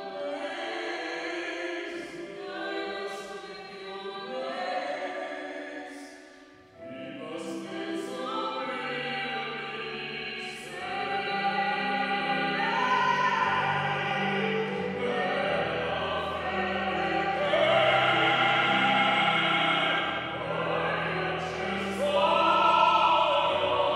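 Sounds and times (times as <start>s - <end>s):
classical duet singing: 0.0s - 23.9s.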